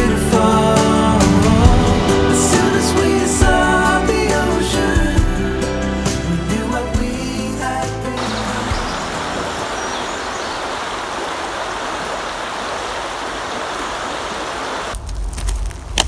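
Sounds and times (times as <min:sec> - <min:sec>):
running water rushing: 0:00.0 - 0:06.4, 0:07.3 - 0:15.0.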